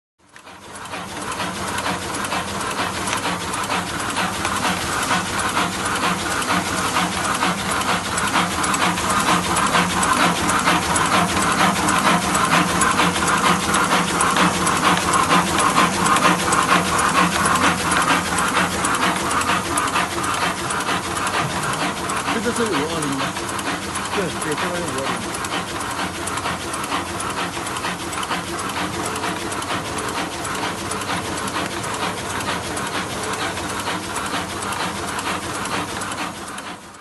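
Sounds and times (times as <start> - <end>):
fast even machine clicking: 0.2 - 37.0
packaging machine hum: 0.4 - 36.8.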